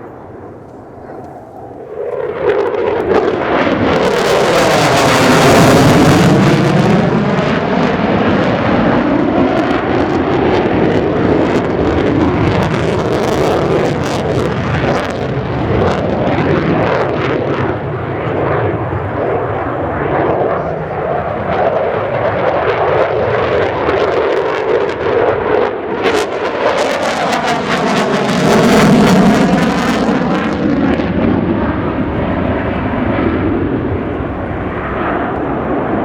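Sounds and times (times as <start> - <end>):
fighter jet fly-by: 0.0 - 36.0.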